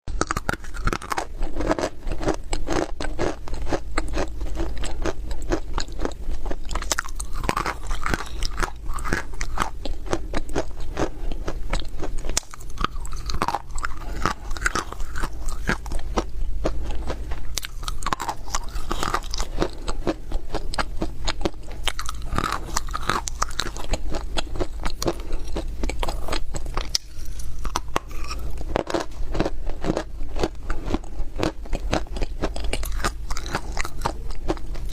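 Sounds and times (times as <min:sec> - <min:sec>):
crunching baked clay: 0:00.1 - 0:34.9.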